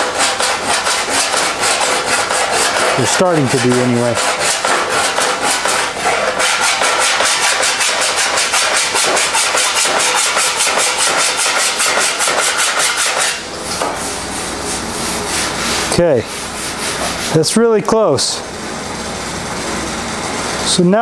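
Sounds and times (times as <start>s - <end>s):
file scraping on metal: 0.0s - 17.6s.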